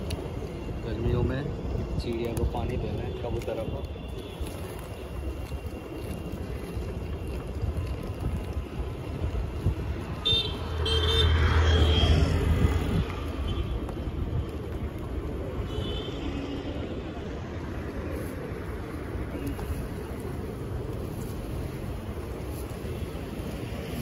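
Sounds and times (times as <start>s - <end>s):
street traffic rumbling: 0.0s - 24.0s.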